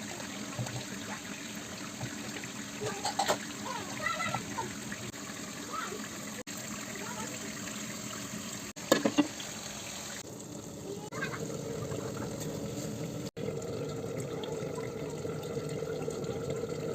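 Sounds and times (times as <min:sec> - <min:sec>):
water running from a tap: 0:00.0 - 0:16.9.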